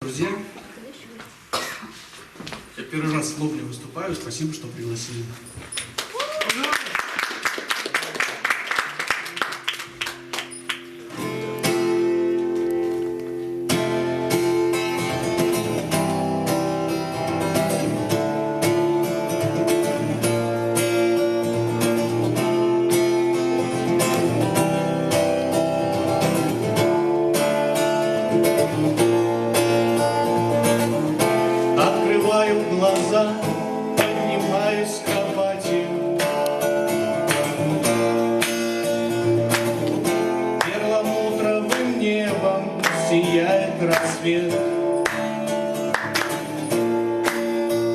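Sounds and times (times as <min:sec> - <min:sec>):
acoustic guitar strumming: 0:09.2 - 0:47.9.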